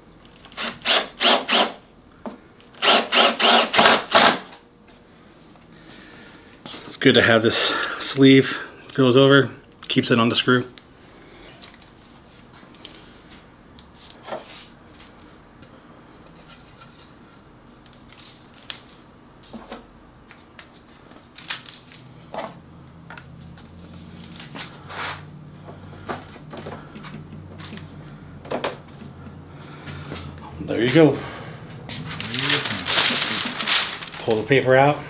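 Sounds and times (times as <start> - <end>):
low steady hum: 4.5 - 35.0.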